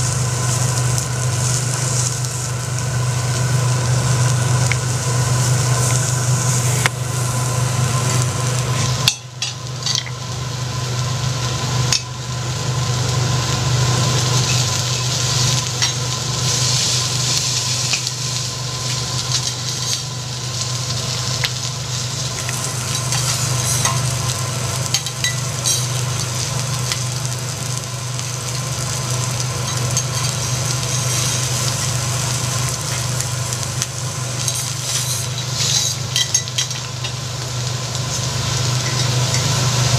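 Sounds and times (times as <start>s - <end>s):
prawns sizzling on a griddle: 0.0s - 39.9s
steady low hum: 0.0s - 39.9s.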